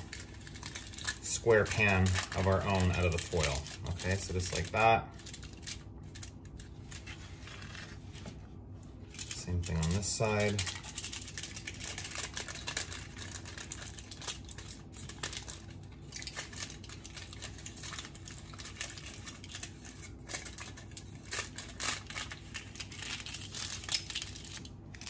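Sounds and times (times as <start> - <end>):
aluminium foil crinkling: 0.0 - 8.4, 9.0 - 25.0.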